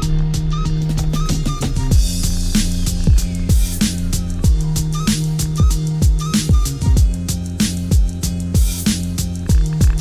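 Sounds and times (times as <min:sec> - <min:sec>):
electronic music with ticking beat: 0:00.0 - 0:10.0.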